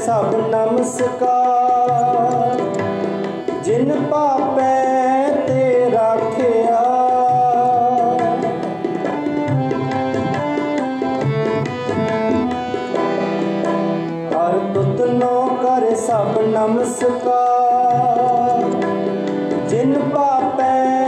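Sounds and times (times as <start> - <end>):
harmonium melody: 0.0 - 21.0
tabla strokes: 0.1 - 21.0.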